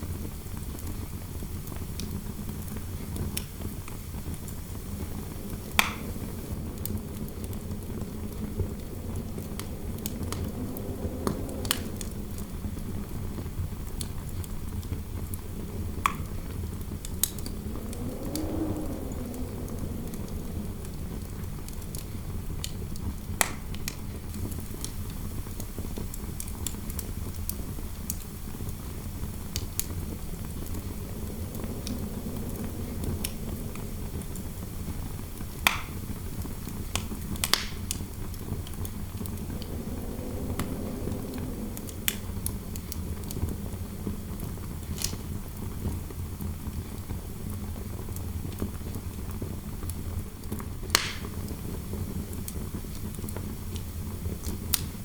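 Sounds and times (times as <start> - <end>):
fireplace fire crackling: 0.0 - 55.0
wind rumbling and howling: 0.0 - 55.0.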